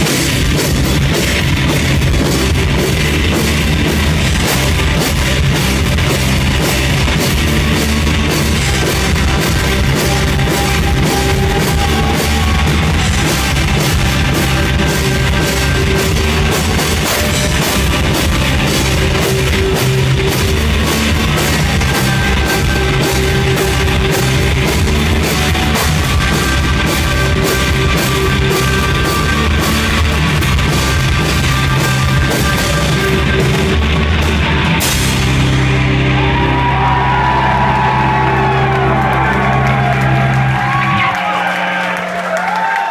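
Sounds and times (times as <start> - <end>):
live rock band playing: 0.0 - 42.8
drums and cymbals pounding: 0.0 - 42.9.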